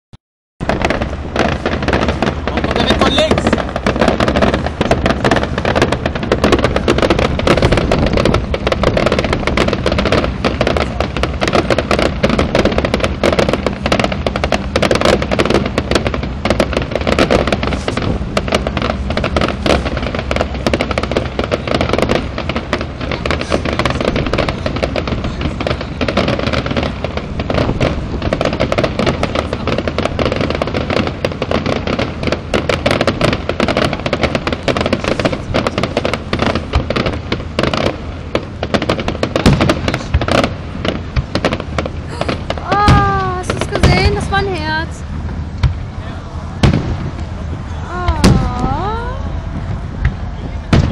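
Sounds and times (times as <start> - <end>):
fireworks bangs and crackles: 0.6 - 50.9.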